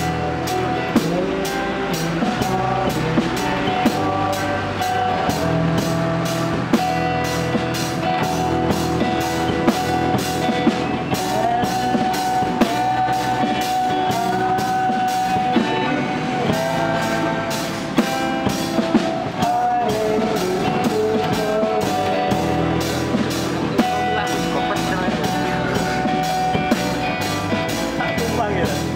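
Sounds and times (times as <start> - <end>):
acoustic guitars strummed: 0.0 - 28.9
drum kit and cymbals: 0.0 - 28.9.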